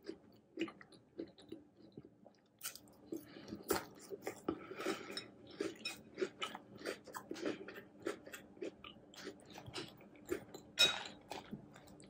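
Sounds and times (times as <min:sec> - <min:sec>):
crunchy cereal chewing: 0:00.0 - 0:12.0.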